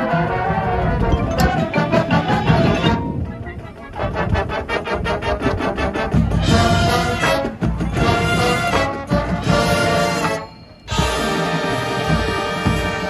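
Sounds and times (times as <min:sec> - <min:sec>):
marching band brass playing: 0:00.0 - 0:13.0.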